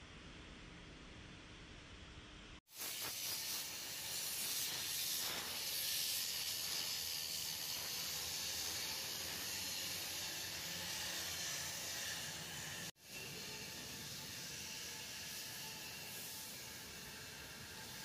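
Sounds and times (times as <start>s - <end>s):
steady high hiss: 2.6s - 18.0s.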